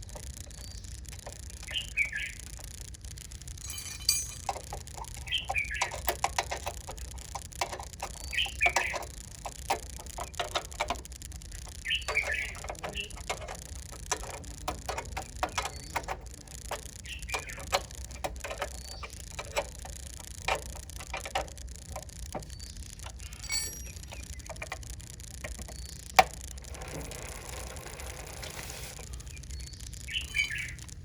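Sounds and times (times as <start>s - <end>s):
clicks and light taps: 0.0s - 27.3s.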